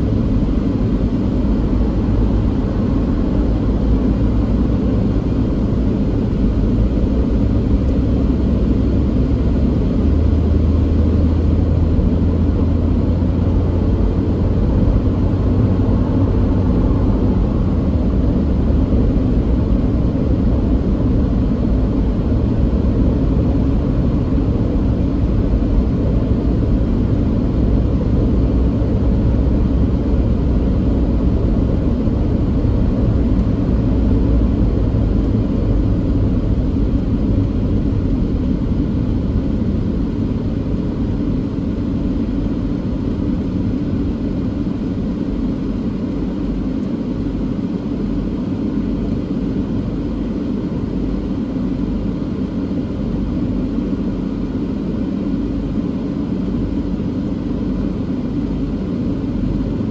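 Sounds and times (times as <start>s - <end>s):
car road noise from inside: 0.0s - 54.8s
deeper hum: 0.0s - 59.9s.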